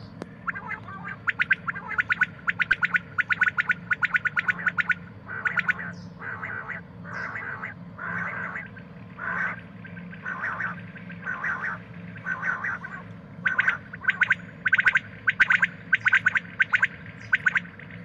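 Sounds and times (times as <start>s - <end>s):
quail calling: 0.0s - 18.0s.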